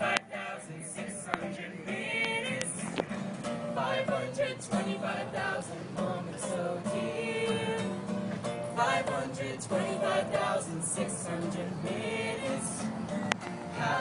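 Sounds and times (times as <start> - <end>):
vocal group singing: 0.0 - 14.0.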